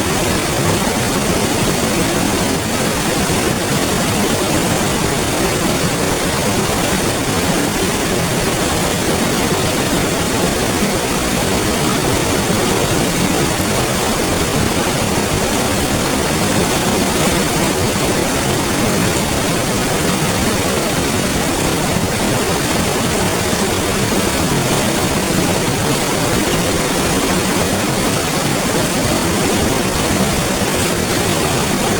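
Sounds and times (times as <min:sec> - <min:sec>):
river flowing: 0:00.0 - 0:31.9.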